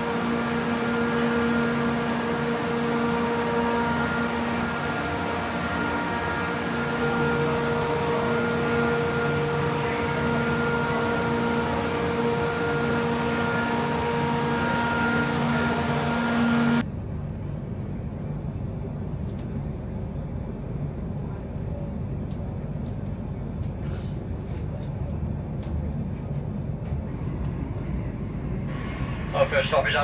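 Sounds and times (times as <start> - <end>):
train hum with held tones: 0.0 - 30.0
train rumble: 0.0 - 30.0.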